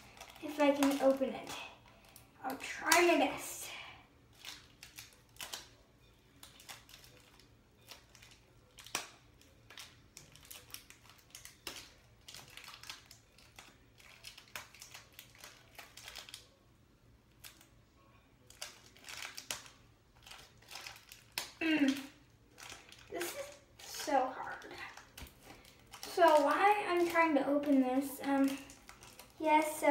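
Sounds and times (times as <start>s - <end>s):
plastic packet crinkling: 0.0s - 3.2s, 4.3s - 16.6s, 18.4s - 29.9s.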